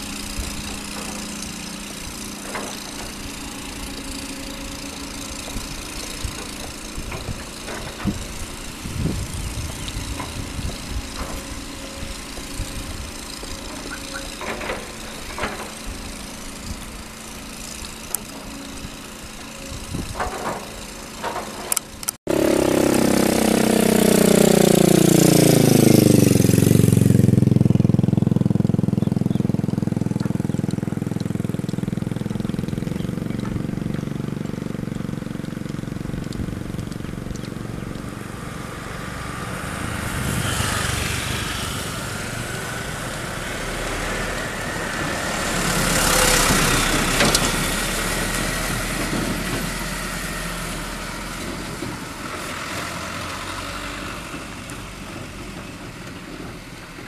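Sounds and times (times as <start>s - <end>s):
dump truck diesel engine: 0.0s - 57.0s.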